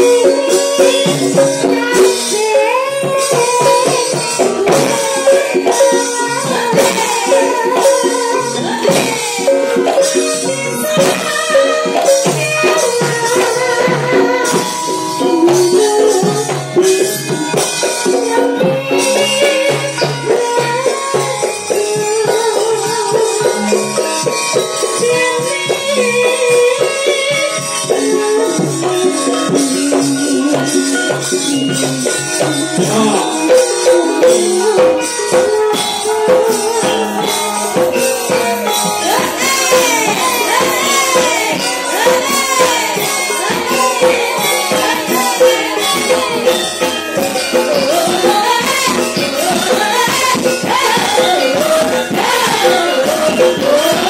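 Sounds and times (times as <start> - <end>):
gamelan music: 0.0 - 54.0
percussion strokes: 0.0 - 54.0
women singing: 0.0 - 54.0.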